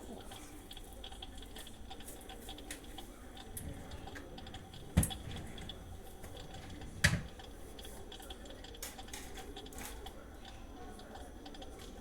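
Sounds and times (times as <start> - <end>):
faint light ticking: 0.7 - 12.0.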